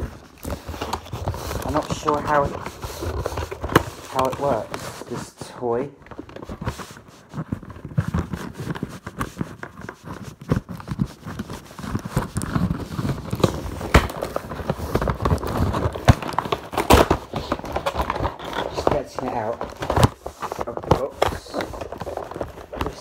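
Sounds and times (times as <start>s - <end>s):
cardboard packaging rustling: 0.0s - 23.0s.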